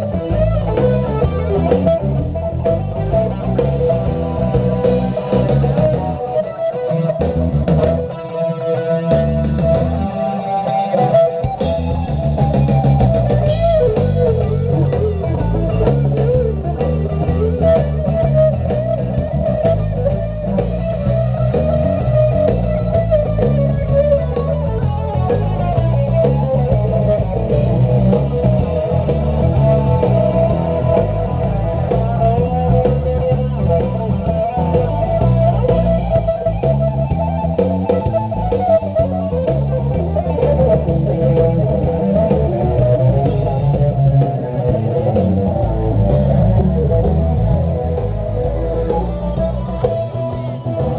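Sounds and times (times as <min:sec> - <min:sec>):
electric guitar rock instrumental: 0:00.0 - 0:50.9
low bass notes: 0:00.0 - 0:50.9.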